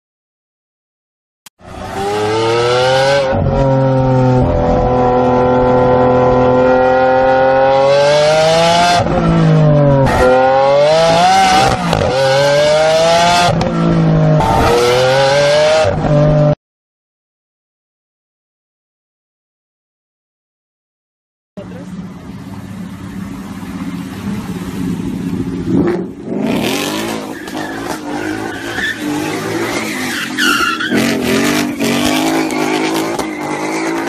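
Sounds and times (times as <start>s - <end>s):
car engine accelerating: 1.6s - 16.6s, 21.6s - 34.0s.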